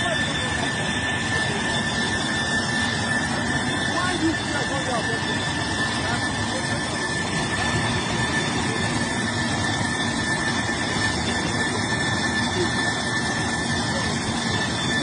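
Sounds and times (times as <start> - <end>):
jet engine running: 0.0 - 15.0.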